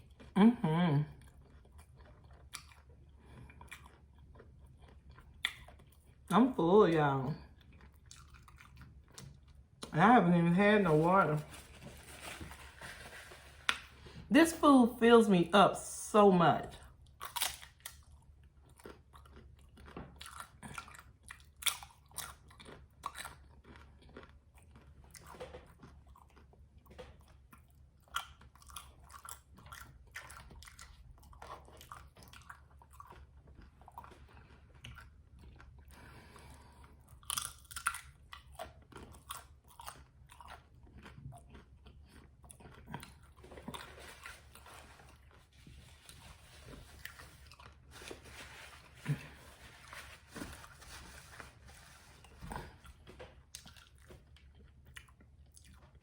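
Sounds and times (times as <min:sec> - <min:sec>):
person chewing crunchy food: 0:01.0 - 0:06.3, 0:07.4 - 0:10.0, 0:16.8 - 0:56.0.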